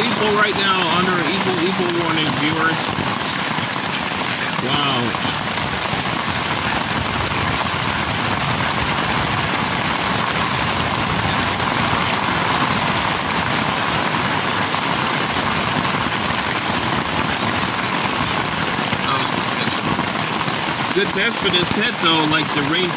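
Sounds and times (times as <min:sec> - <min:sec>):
heavy rain on a tent: 0:00.0 - 0:22.9.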